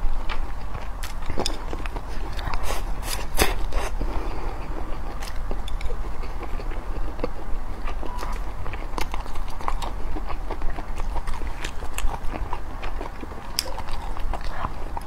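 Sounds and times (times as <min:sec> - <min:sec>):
chewing and biting food: 0:00.0 - 0:15.0.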